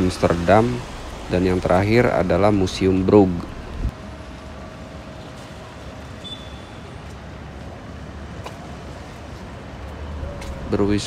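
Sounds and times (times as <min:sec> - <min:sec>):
city street rumble: 0:00.0 - 0:11.0.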